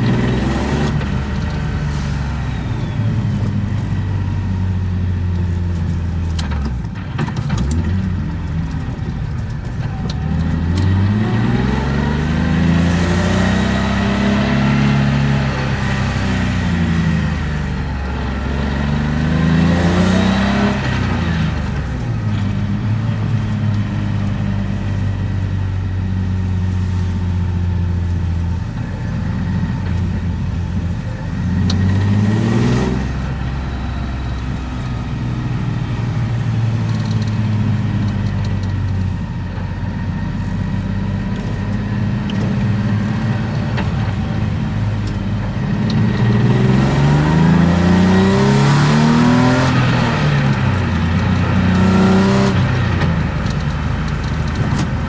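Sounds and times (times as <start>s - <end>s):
car engine running and revving: 0.0s - 55.0s.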